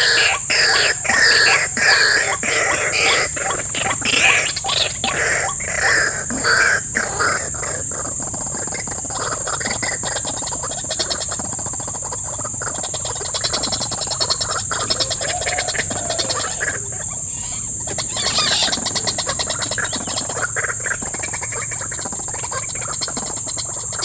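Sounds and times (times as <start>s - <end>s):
animal calls and clicks: 0.0s - 24.0s
high insect drone: 0.0s - 24.0s.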